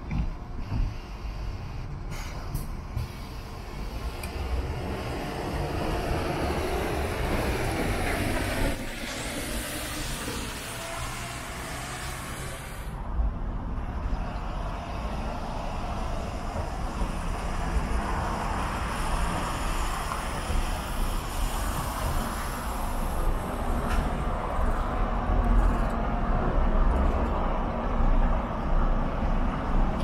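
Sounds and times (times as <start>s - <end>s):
bus engine rumble: 0.0s - 30.0s
tyre and road noise: 0.0s - 30.0s.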